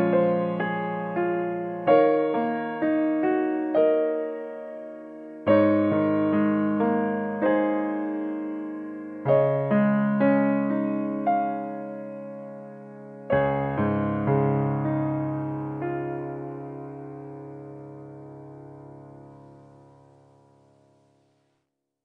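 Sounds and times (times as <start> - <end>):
slow piano music: 0.0 - 21.4.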